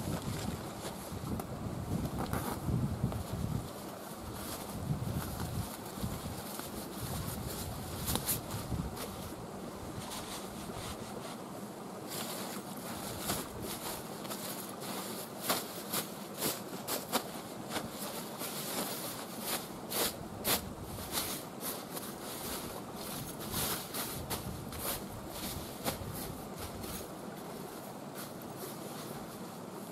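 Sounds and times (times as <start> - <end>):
steady background hiss: 0.0 - 29.9
nylon fabric rustling: 2.0 - 29.9.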